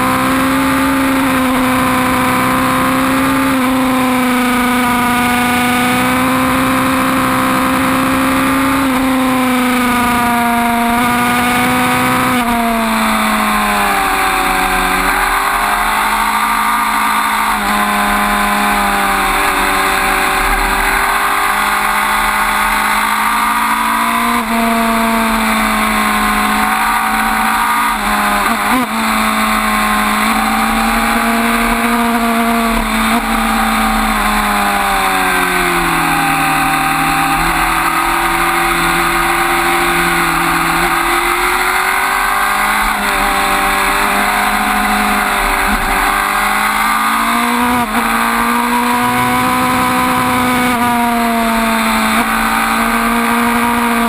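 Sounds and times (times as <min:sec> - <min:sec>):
motorcycle engine running hard: 0:00.0 - 0:54.0.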